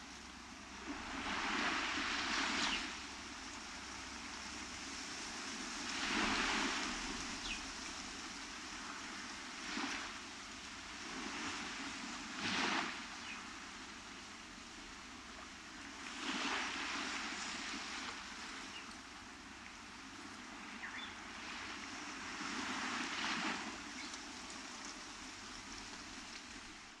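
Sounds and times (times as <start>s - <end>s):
ocean waves breaking on beach: 0.0s - 27.0s
steady surf hiss: 0.0s - 27.0s.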